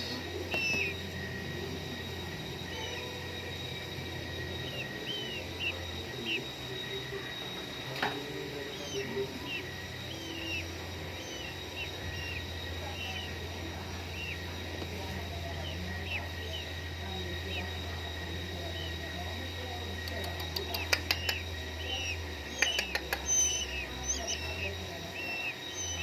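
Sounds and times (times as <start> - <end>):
nestlings begging chirps: 0.0 - 26.0
steady low hum: 0.0 - 26.0.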